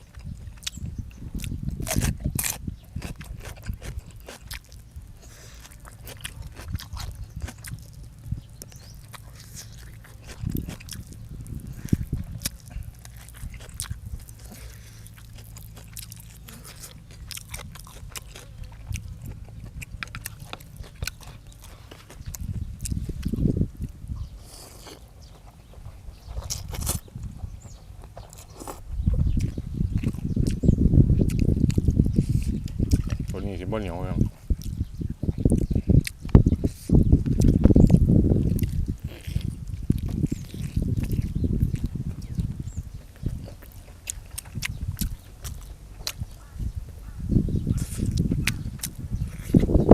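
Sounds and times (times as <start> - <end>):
person chewing food: 0.0 - 33.3, 34.2 - 49.9.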